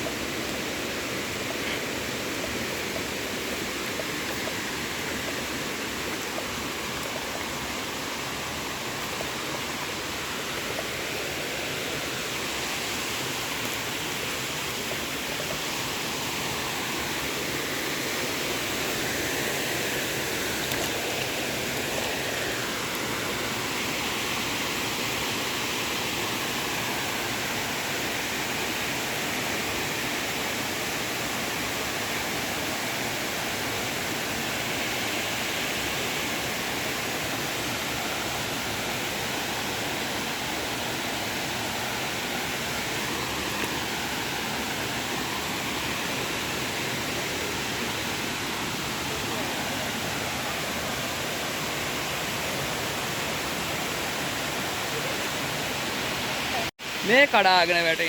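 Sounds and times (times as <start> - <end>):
waterfall thundering: 0.0 - 58.0.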